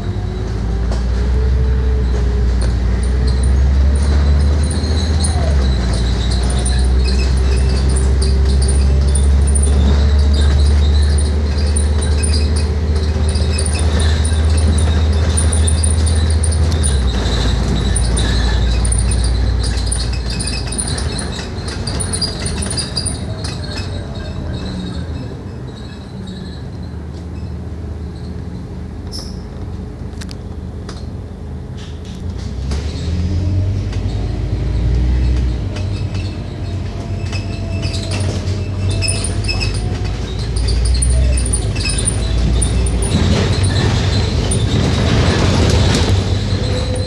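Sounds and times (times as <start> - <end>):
bus engine accelerating: 0.0 - 47.0.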